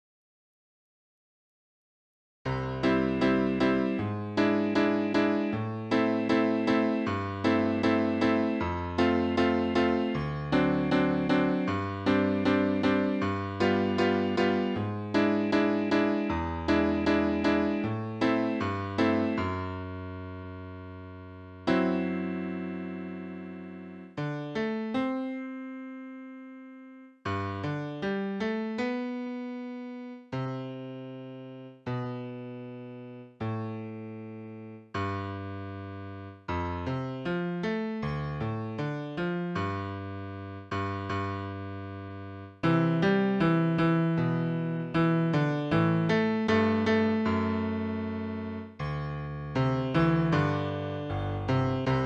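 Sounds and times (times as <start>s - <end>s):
solo keyboard music: 2.5s - 52.0s.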